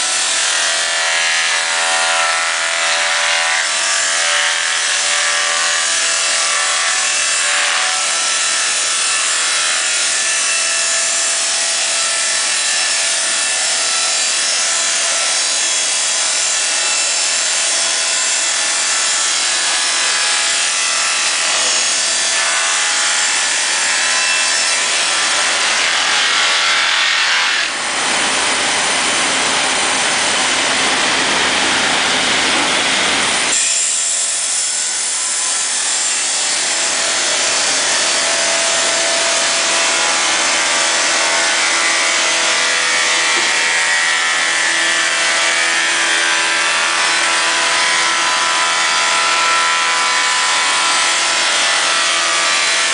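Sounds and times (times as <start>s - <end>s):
rip saw ripping timber: 0.0s - 52.9s.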